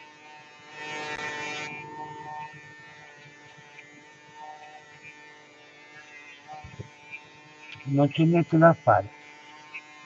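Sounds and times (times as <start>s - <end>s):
electric shaver buzzing: 0.0s - 10.0s.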